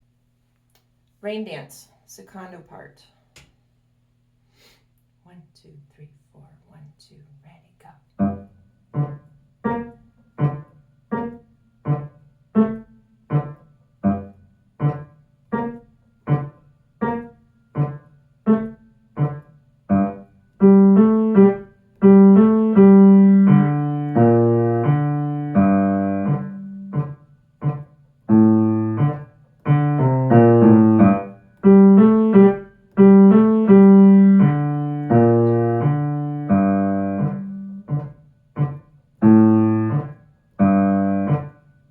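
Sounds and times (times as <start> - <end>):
piano playing low chords: 8.2 - 41.9.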